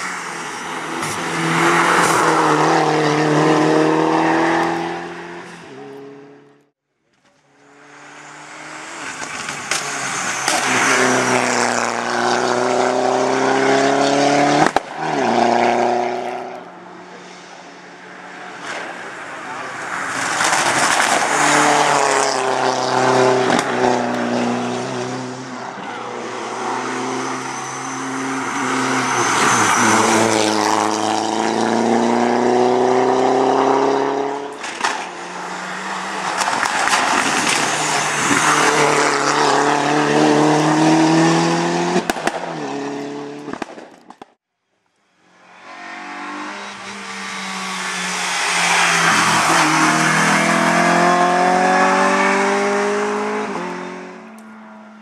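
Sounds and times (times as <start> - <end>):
racing car engines accelerating: 0.2 - 6.6, 7.6 - 43.5, 45.4 - 55.0.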